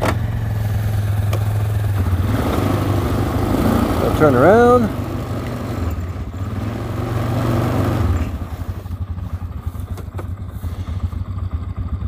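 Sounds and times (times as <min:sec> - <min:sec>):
atv engine revving and idling: 0:00.0 - 0:12.0.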